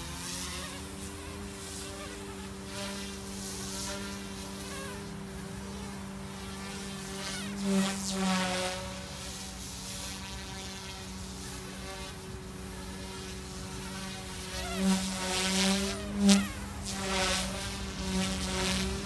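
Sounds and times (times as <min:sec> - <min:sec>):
rc helicopter buzzing: 0:00.0 - 0:19.0.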